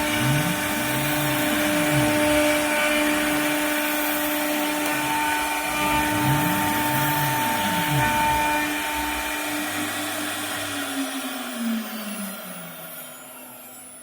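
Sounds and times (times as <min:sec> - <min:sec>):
cnc router running: 0:00.0 - 0:14.0.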